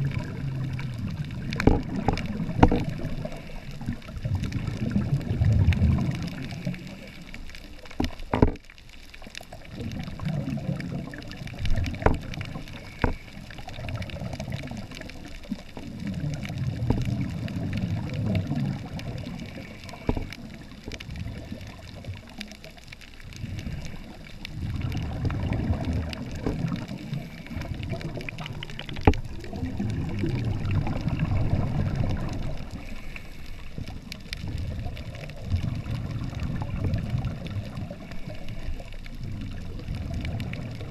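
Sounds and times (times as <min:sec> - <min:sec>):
rumbling wave movement: 0:00.0 - 0:08.6, 0:09.3 - 0:40.9
scuba exhalation bubbles: 0:00.0 - 0:08.7, 0:09.5 - 0:40.9
muffled underwater bubbling: 0:00.0 - 0:40.9.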